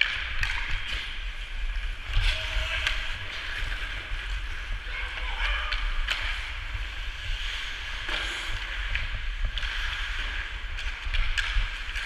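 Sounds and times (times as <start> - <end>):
hockey sticks and puck clicks: 0.0 - 7.0, 7.6 - 12.0
low rumble: 0.0 - 12.0
skate blades scraping ice: 0.0 - 12.0.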